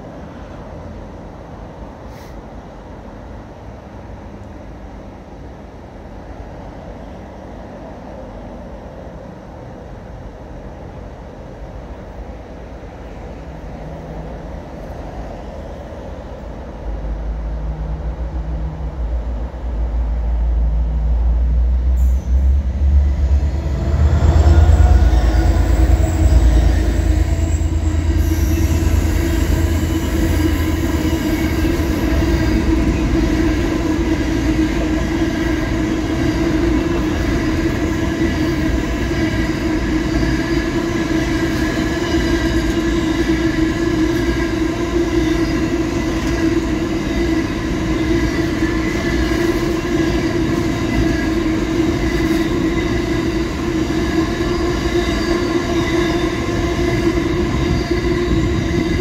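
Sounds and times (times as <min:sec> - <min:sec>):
train rumble passing: 0:00.0 - 0:59.0.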